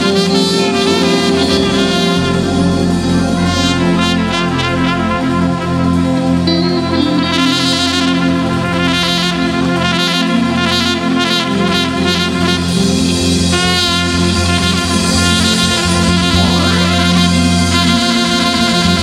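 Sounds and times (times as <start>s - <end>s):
band playing instrumental: 0.0s - 19.0s.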